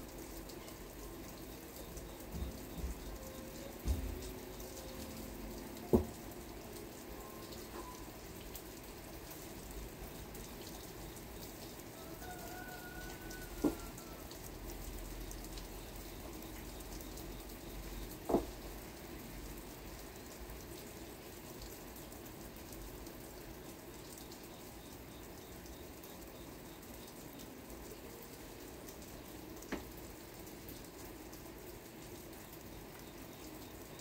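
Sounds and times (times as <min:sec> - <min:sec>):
light rain: 0:00.0 - 0:34.0.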